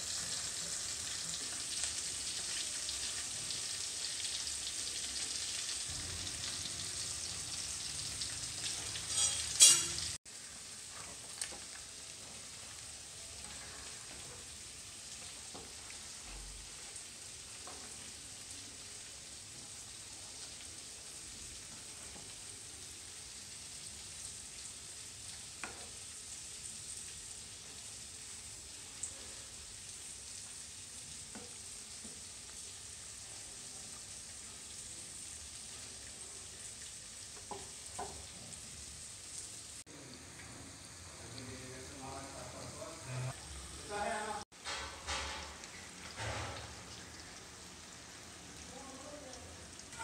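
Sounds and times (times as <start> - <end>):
meat sizzling in hot oil: 0.0 - 50.0.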